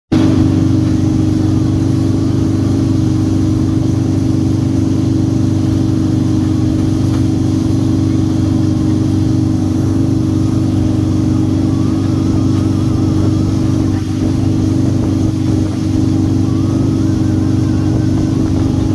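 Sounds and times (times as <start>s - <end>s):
boat engine running: 0.1s - 18.9s.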